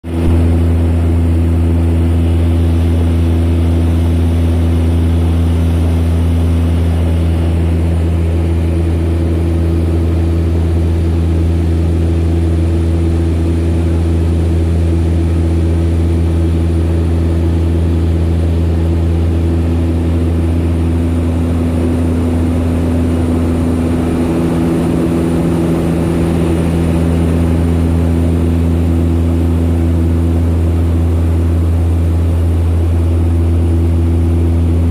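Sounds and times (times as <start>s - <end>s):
propeller aircraft engines droning: 0.0s - 34.9s.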